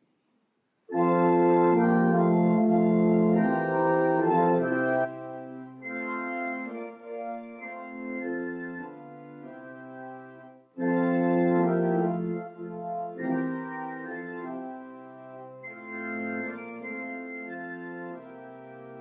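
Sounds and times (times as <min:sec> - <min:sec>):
church organ playing a hymn: 0:00.9 - 0:19.0.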